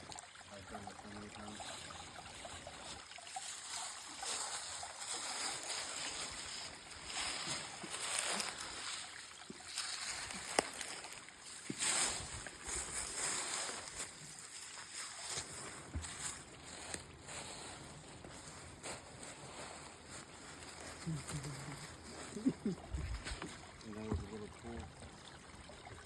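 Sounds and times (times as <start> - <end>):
light water splashes: 0.0 - 26.0
stream water running: 0.0 - 26.0.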